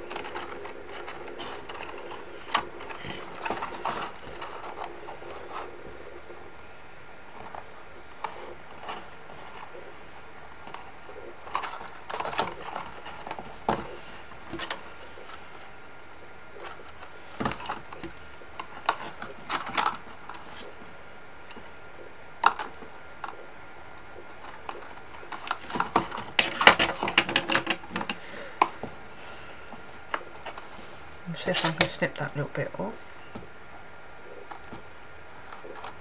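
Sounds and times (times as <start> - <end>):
cardstock rustling and clicking: 0.0 - 6.6, 7.3 - 15.8, 16.5 - 21.8, 22.4 - 29.1, 29.7 - 30.9, 34.3 - 36.0.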